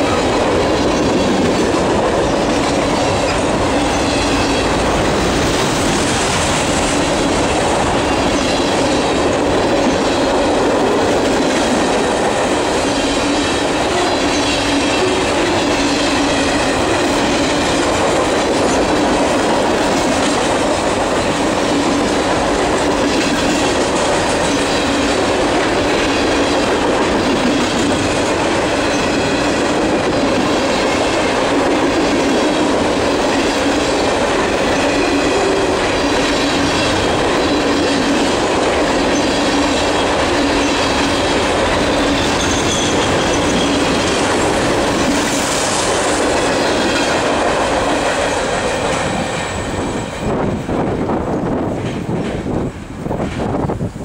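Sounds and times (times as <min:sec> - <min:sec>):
freight train wheels rolling: 0:00.0 - 0:54.0.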